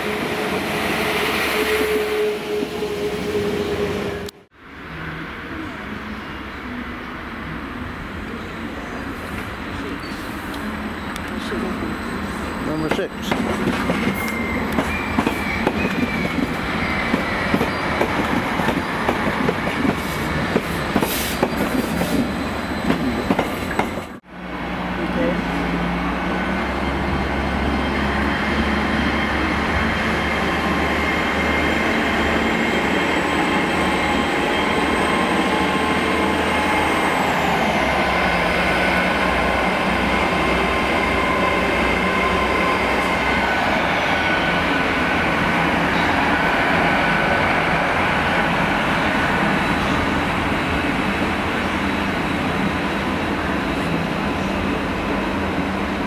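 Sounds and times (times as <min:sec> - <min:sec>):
high train whine: 0:00.0 - 0:56.0
train wheels rumbling on rail: 0:09.1 - 0:56.0.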